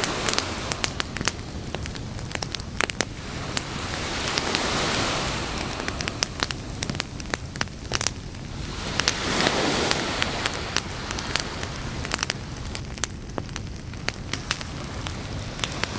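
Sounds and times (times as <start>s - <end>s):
campfire crackling and popping: 0.0s - 15.9s
surf washing: 0.0s - 15.9s.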